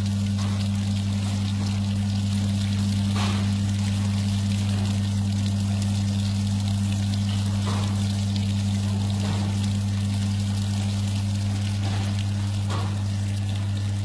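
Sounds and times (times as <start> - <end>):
pump humming: 0.0 - 14.0.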